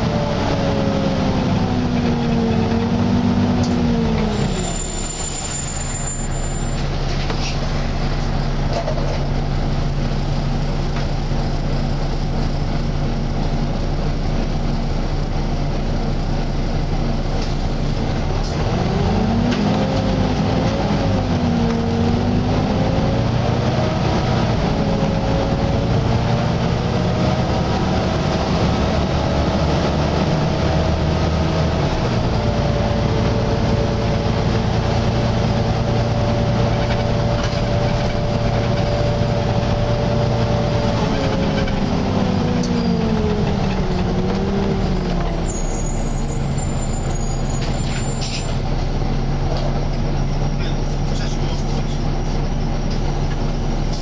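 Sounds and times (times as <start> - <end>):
bus running noise: 0.0 - 54.0
bus cooling fan whine: 6.8 - 54.0.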